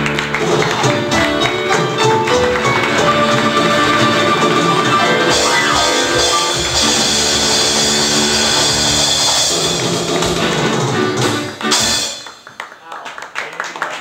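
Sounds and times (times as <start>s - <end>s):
live rock band playing: 0.0s - 12.5s
drums: 0.0s - 12.6s.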